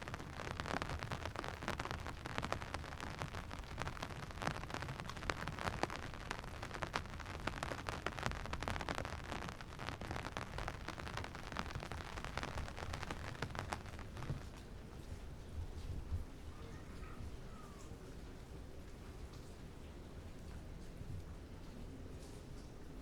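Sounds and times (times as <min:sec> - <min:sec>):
rain drops hitting: 0:00.0 - 0:23.0
rain hiss: 0:00.0 - 0:23.0.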